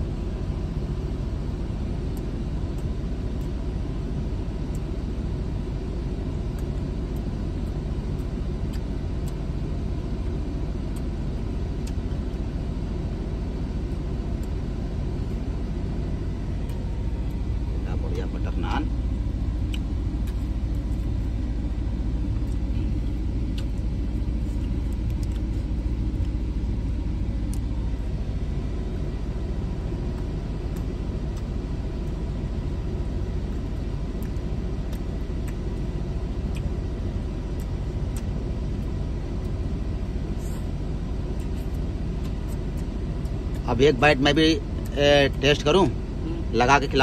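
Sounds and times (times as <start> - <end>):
car cabin rumble: 0.0 - 47.0.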